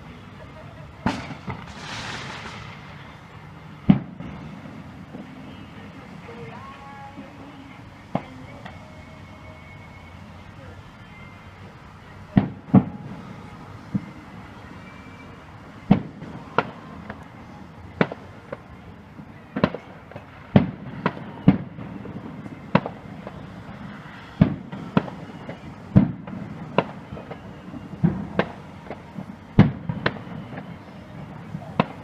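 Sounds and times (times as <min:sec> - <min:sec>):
fireworks bangs: 0:00.0 - 0:10.2, 0:12.1 - 0:32.0.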